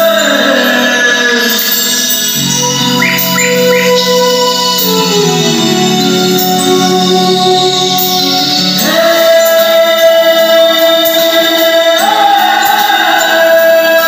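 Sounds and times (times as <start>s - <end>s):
music with singing: 0.0s - 14.0s.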